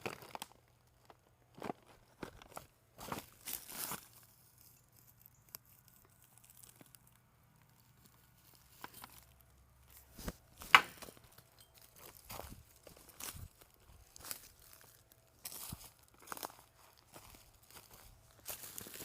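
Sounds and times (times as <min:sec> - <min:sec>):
dry leaves and twigs crunching: 0:00.0 - 0:19.0.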